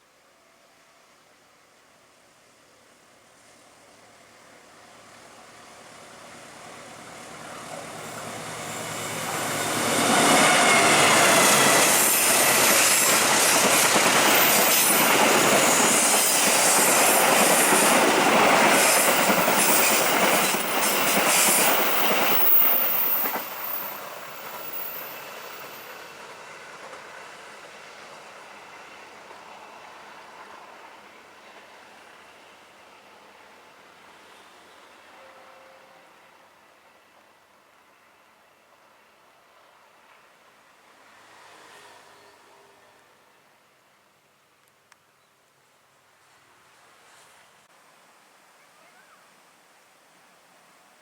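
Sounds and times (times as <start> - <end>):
passenger train passing: 2.4 - 43.9.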